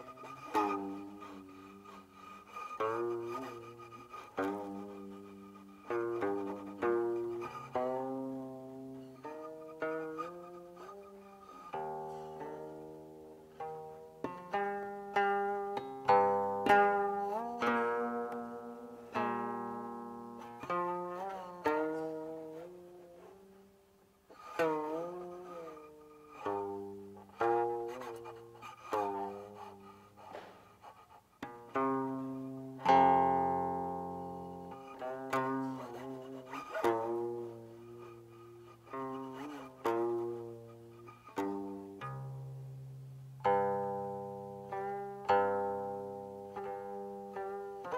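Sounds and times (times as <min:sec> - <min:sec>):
plucked zither notes: 0:00.0 - 0:47.9.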